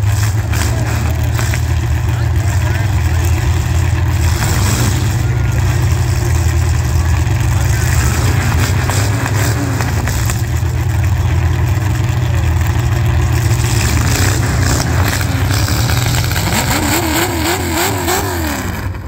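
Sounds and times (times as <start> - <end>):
engine revving up and down: 0.0 - 19.0
loud unmuffled car engines: 0.0 - 19.0.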